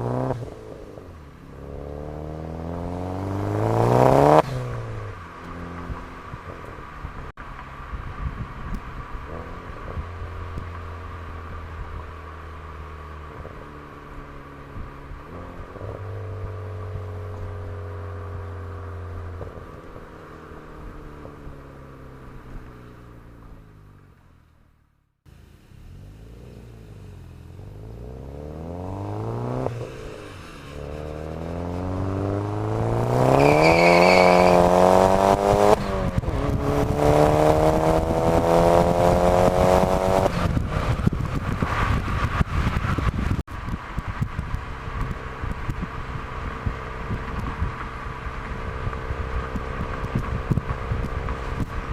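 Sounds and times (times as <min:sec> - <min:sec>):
car engine revving: 0:00.0 - 0:24.2, 0:25.3 - 0:51.9.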